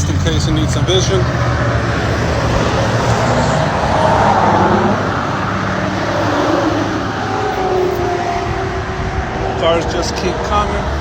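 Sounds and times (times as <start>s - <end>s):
highway traffic rushing past: 0.0s - 11.0s
vehicle passing loudly: 0.0s - 11.0s.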